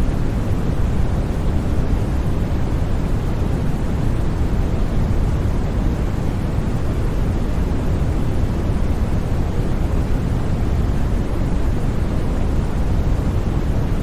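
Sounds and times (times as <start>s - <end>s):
white noise rush: 0.0s - 14.0s.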